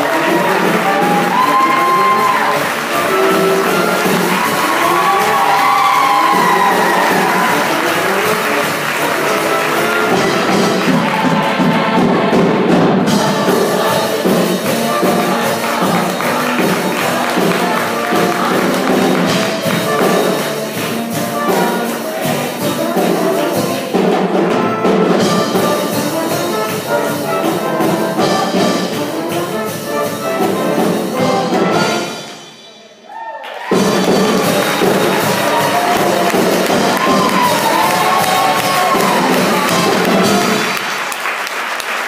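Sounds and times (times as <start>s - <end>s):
mixed choir singing: 0.0s - 24.6s, 25.2s - 32.4s, 34.0s - 40.8s
instrumental accompaniment: 0.0s - 33.0s, 33.7s - 41.5s
steady percussion beat: 0.0s - 33.0s, 33.6s - 41.2s.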